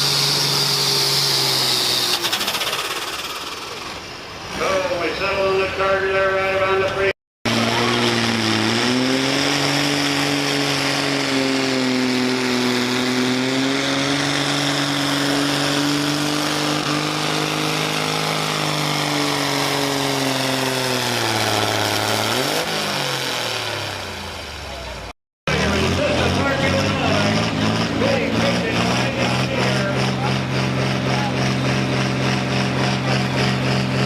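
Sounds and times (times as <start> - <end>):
pulling vehicle engine under load: 0.0 - 5.6, 6.9 - 34.0.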